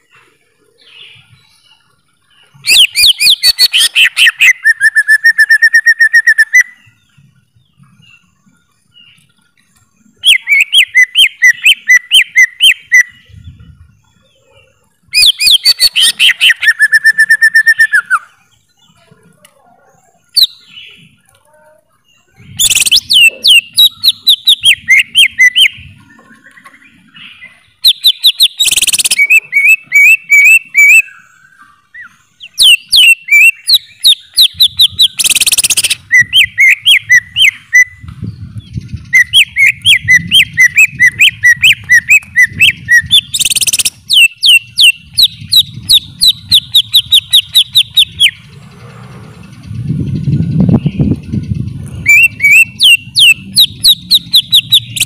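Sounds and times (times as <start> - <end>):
bird singing whistled notes: 0.0 - 19.0, 19.9 - 21.2, 21.8 - 48.7, 49.4 - 55.0.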